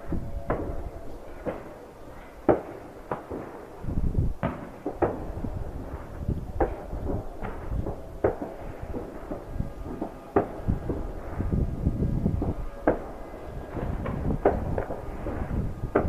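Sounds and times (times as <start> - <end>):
distant fireworks bangs: 0.0 - 16.0
low rumble of explosions: 0.0 - 16.0
wind: 0.0 - 16.0.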